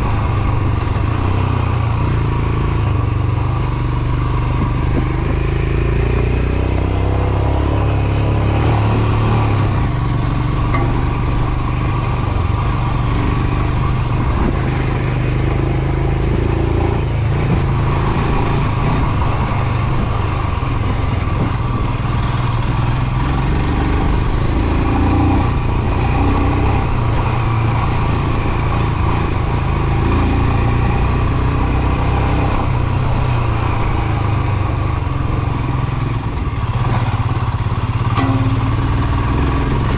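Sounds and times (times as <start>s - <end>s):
motorcycle engine running: 0.0s - 39.9s
road and air noise: 0.0s - 39.9s.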